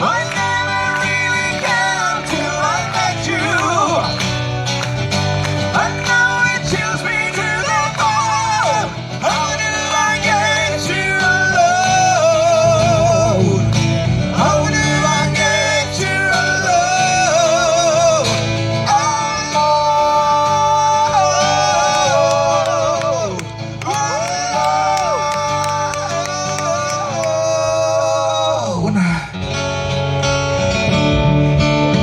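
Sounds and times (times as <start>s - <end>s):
acoustic guitar accompaniment: 0.0s - 32.0s.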